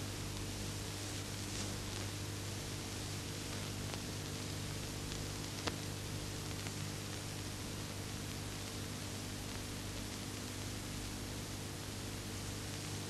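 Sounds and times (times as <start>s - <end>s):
film soundtrack hiss and hum: 0.0s - 13.0s.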